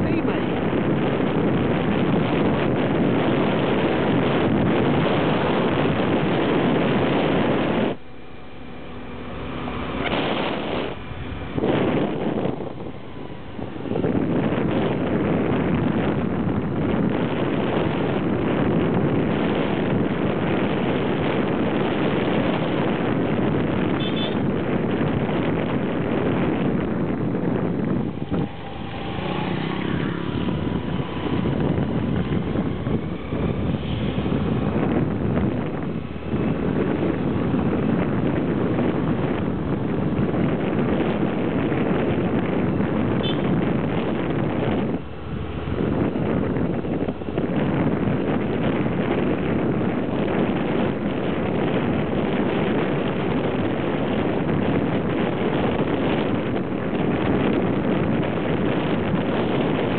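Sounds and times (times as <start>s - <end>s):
road noise: 0.0s - 59.9s
wind rushing over microphone: 0.0s - 59.9s
motorcycle engine: 0.9s - 59.9s.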